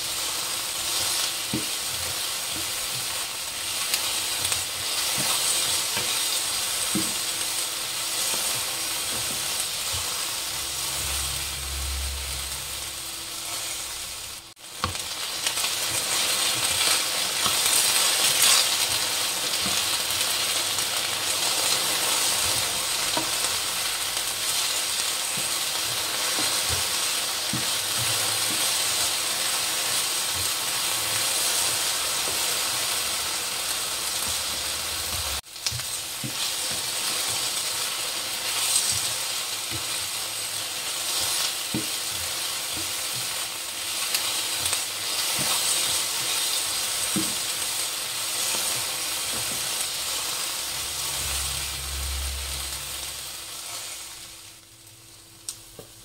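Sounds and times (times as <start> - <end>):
potatoes sizzling in hot oil: 0.0 - 56.0.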